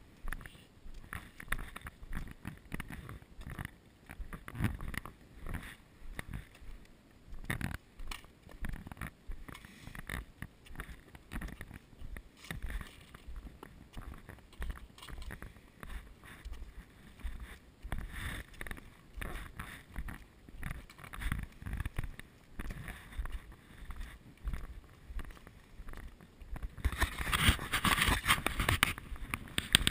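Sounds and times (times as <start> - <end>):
footsteps on concrete: 0.0 - 29.9.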